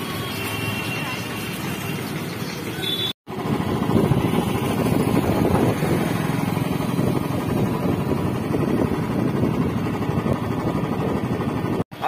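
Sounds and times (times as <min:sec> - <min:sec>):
motorcycle engine running: 0:01.6 - 0:11.8.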